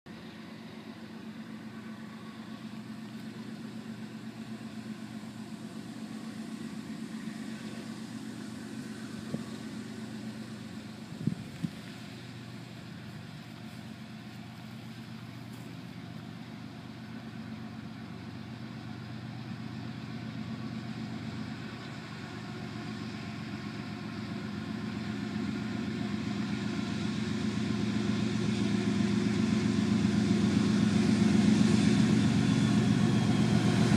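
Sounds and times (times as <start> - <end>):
diesel locomotive engine hum: 0.0 - 33.9.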